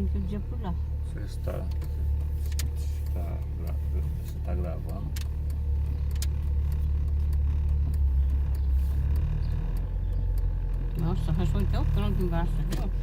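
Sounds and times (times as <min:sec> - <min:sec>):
car driving rumble from inside: 0:00.0 - 0:13.0
faint clicks: 0:01.7 - 0:13.0.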